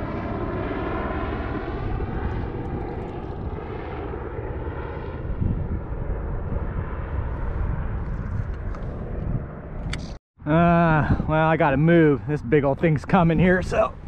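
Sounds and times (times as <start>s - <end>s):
wind on microphone: 1.7s - 3.9s, 4.5s - 14.0s.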